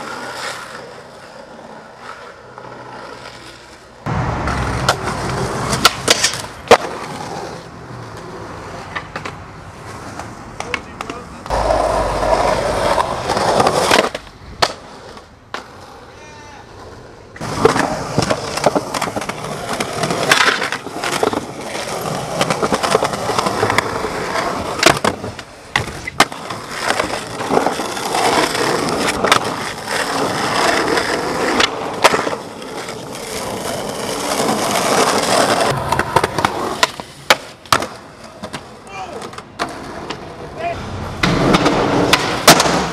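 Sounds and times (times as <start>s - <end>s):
skateboard popping and landing: 0.0s - 42.9s
skateboard wheels rolling on concrete: 0.0s - 42.9s.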